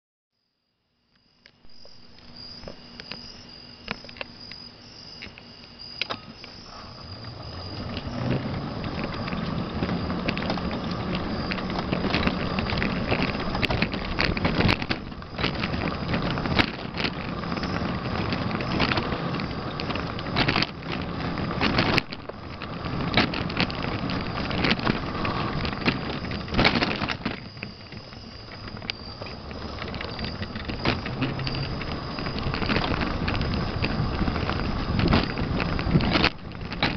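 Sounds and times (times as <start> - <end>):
crickets chirping: 0.4 - 36.9
wind on microphone: 6.7 - 36.9.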